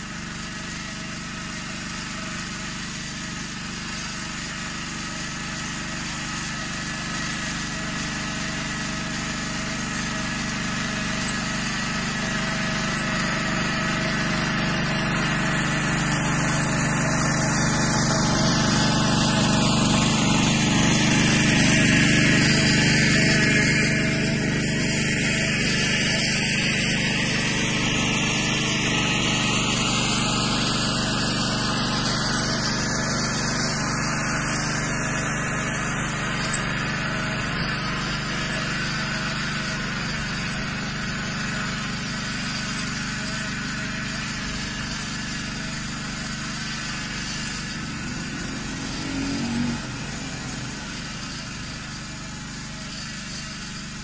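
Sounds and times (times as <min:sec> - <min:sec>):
walking tractor engine running: 0:00.0 - 0:54.0.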